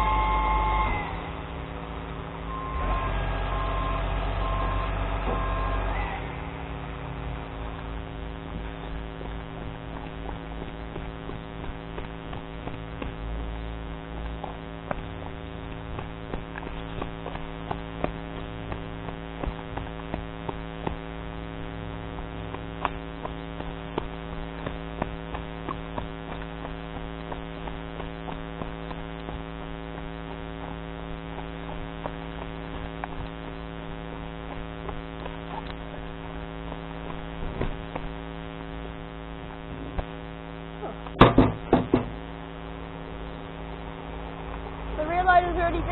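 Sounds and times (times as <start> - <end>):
engine idling hum: 0.0 - 45.9.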